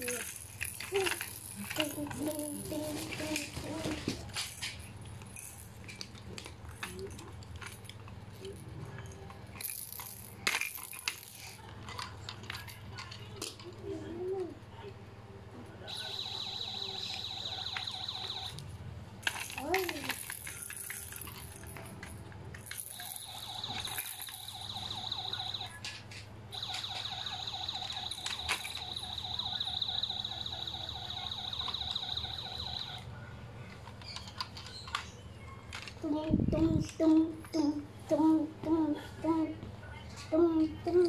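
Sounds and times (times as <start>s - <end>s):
plastic toy parts clicking on carpet: 0.0s - 13.7s, 15.9s - 33.0s, 33.7s - 37.7s.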